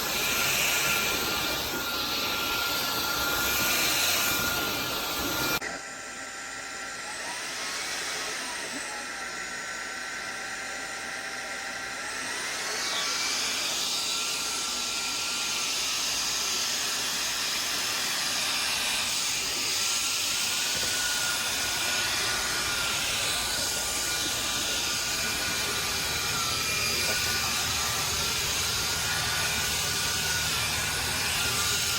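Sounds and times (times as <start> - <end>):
stick vacuum cleaner whining: 0.0 - 31.9.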